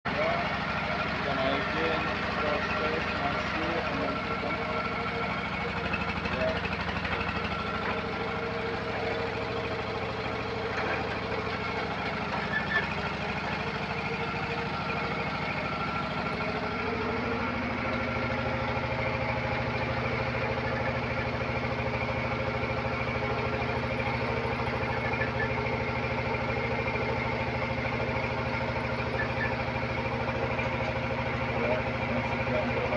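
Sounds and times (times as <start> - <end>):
drilling machine engine running: 0.0 - 32.9.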